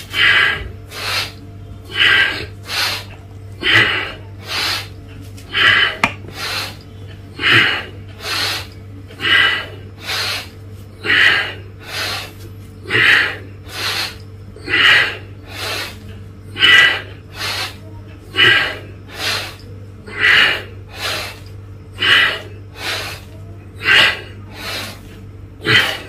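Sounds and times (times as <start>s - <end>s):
man breathing forcefully: 0.0s - 4.9s, 5.5s - 6.8s, 7.4s - 16.0s, 16.6s - 26.0s.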